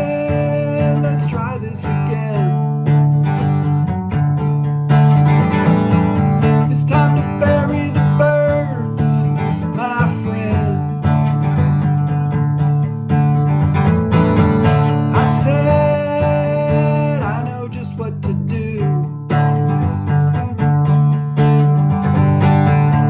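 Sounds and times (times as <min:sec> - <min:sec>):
bending lead guitar melody: 0:00.0 - 0:23.0
strummed acoustic guitar: 0:00.0 - 0:23.0.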